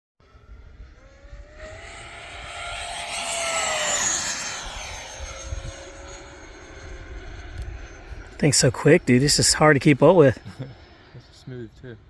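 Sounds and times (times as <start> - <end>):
model airplane motor whine: 0.3 - 11.0.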